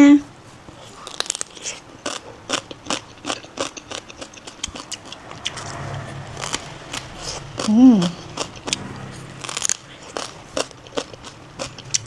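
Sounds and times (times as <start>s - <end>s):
person chewing food: 0.7s - 5.8s, 6.4s - 12.0s.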